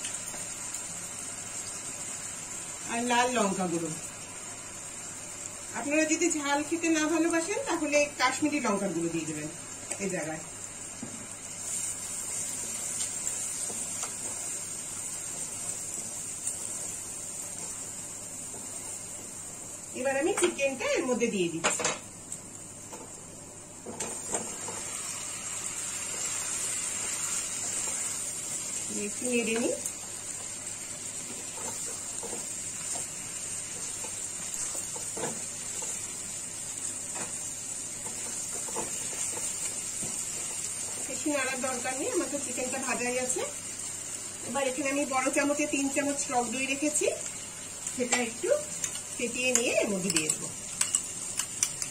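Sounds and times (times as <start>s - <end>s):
spices sizzling in hot oil: 0.0s - 51.9s.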